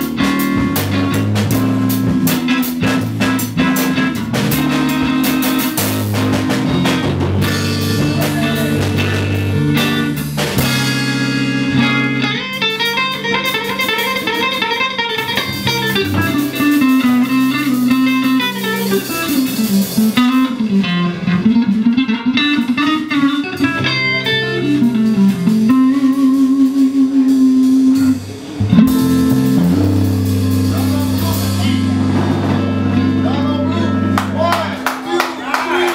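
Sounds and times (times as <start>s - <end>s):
electric blues band: 0.0s - 35.9s
electric guitar lead: 0.0s - 35.9s.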